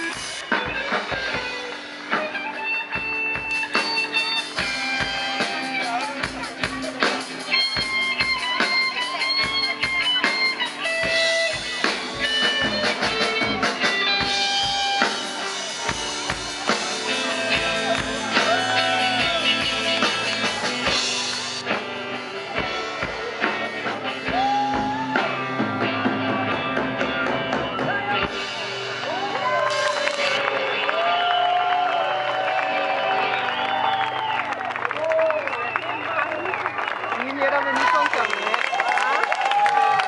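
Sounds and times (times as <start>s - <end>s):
drum kit: 0.0s - 36.1s
electric guitar: 0.0s - 40.0s
live rock band playing: 0.0s - 40.0s.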